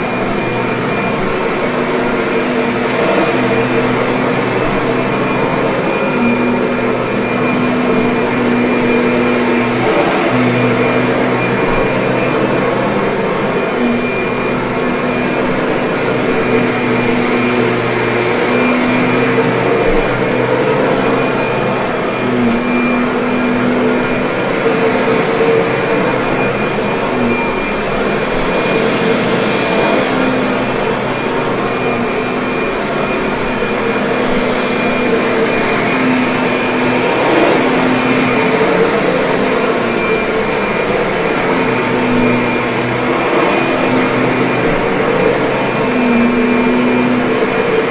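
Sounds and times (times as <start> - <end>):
vacuum cleaner motor drone: 0.0 - 47.9.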